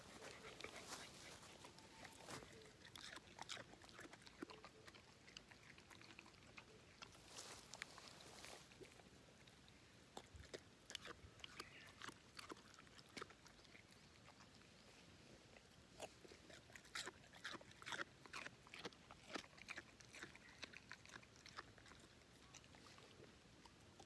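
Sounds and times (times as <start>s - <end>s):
dog crunching carrot: 0.1s - 14.7s, 15.5s - 24.0s.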